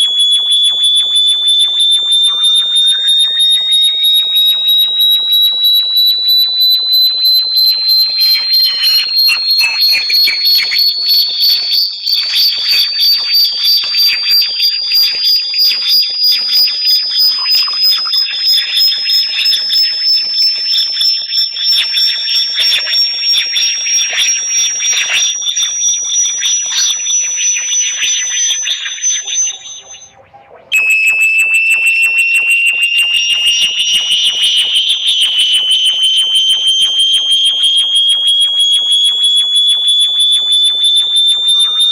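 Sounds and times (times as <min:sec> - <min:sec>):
pulsing high-pitched electronic whistle: 0:00.0 - 0:41.9.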